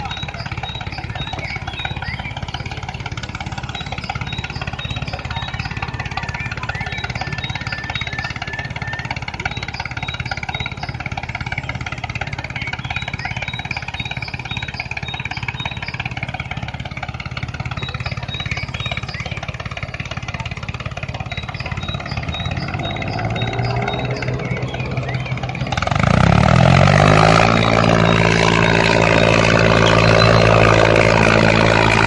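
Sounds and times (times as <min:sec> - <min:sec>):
faint high blips: 0:00.0 - 0:32.0.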